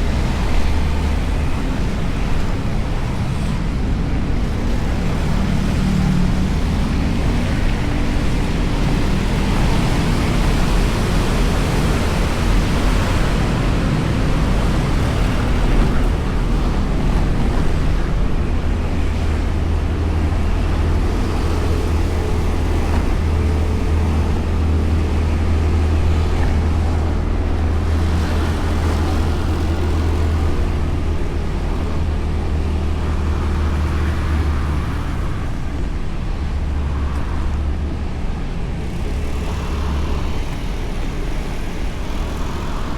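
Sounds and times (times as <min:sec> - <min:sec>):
wind noise: 0:00.0 - 0:42.9.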